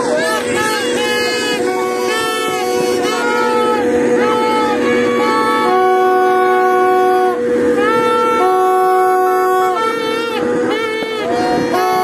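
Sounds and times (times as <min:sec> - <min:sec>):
party horns blowing: 0:00.0 - 0:12.0.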